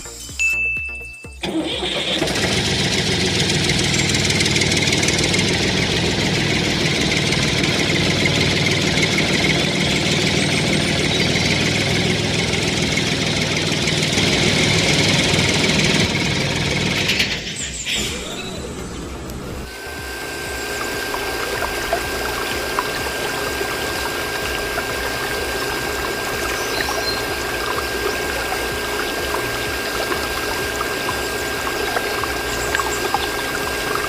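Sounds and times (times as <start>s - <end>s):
small motor running: 1.5s - 17.4s, 18.1s - 34.0s.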